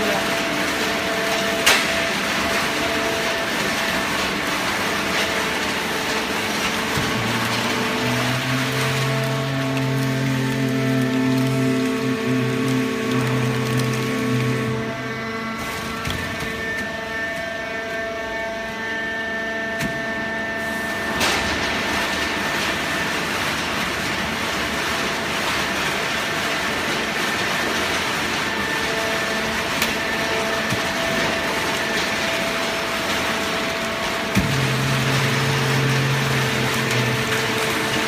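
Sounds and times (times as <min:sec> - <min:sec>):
baler machine humming and whining: 0:00.0 - 0:38.0.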